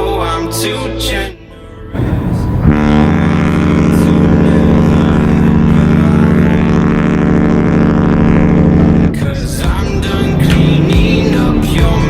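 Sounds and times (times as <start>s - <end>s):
ship horn blast: 2.0s - 12.0s.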